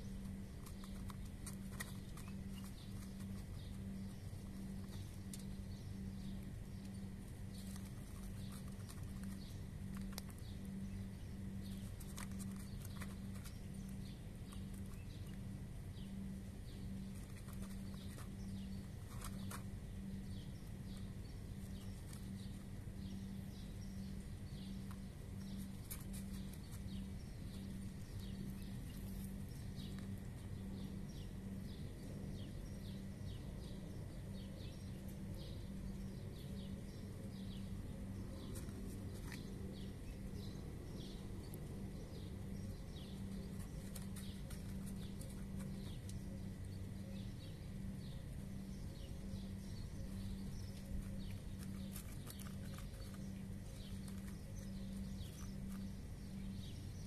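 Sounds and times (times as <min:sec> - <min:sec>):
cats crunching dry kibble: 0:00.0 - 0:32.3, 0:35.0 - 0:57.0
steady low hum: 0:00.0 - 0:57.0.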